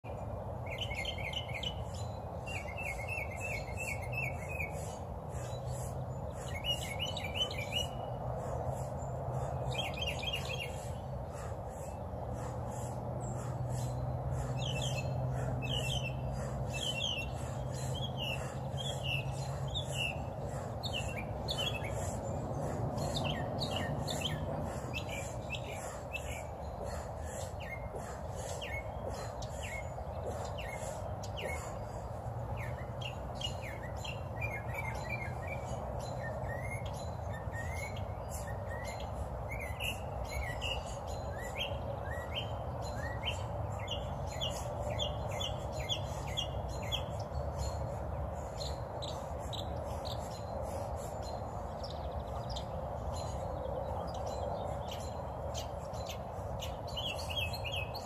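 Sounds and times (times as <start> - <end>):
low background hum: 0.0 - 58.0
small birds chirping: 0.0 - 58.0.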